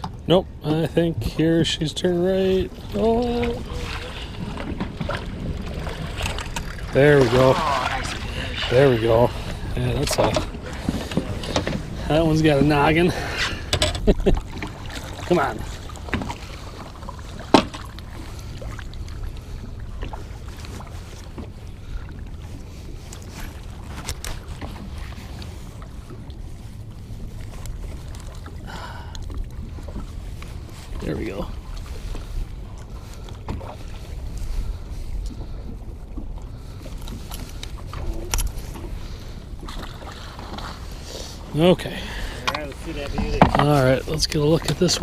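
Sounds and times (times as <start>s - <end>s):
wind and water rumble against boat: 0.0s - 45.0s.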